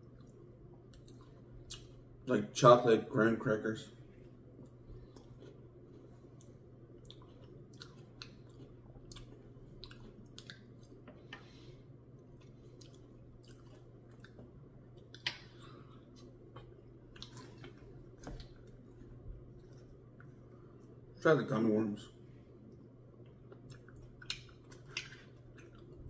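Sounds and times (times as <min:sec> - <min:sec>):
faint chewing and mouth sounds: 0:00.0 - 0:02.3, 0:03.8 - 0:21.2, 0:22.1 - 0:26.0
steady low hum: 0:00.0 - 0:26.0.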